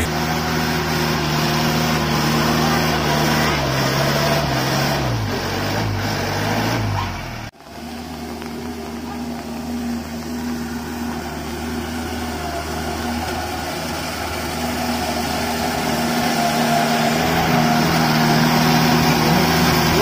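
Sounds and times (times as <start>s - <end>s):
jeep engine driving through mud: 0.0s - 20.0s.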